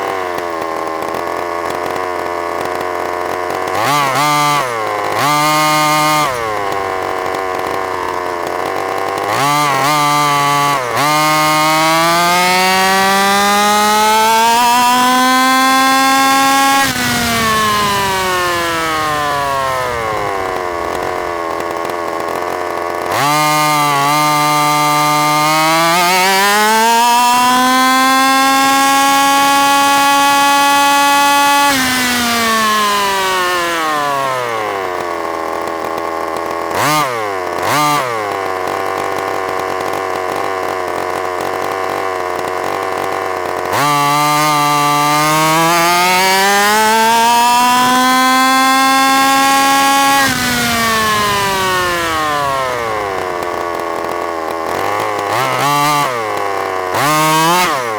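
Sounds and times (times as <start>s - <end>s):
two-stroke engine revving: 0.0s - 57.9s.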